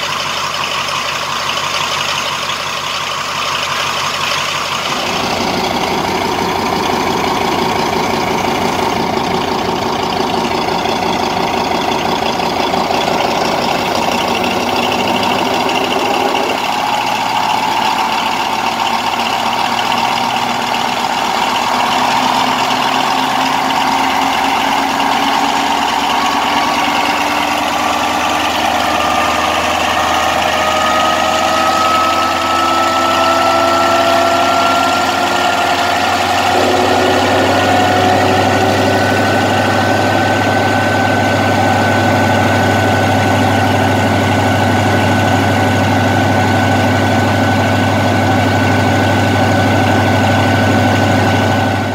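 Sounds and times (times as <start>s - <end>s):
diesel locomotive engine running: 0.0s - 51.9s
deep loud engine note: 4.5s - 51.9s.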